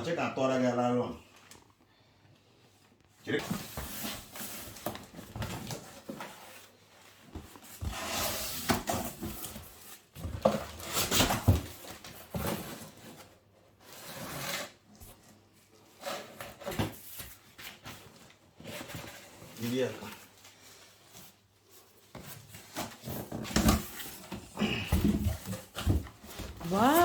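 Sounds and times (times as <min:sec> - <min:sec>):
objects rustling and knocking: 0:03.4 - 0:14.2, 0:15.0 - 0:27.0.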